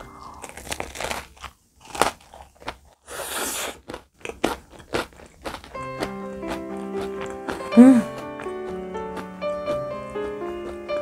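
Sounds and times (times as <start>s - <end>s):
crunching crisp tart crust: 0.1s - 11.0s.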